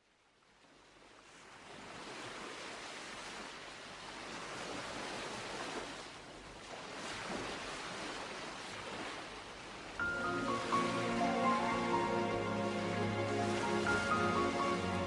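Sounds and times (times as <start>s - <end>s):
sea waves washing onto shore: 0.6s - 15.0s.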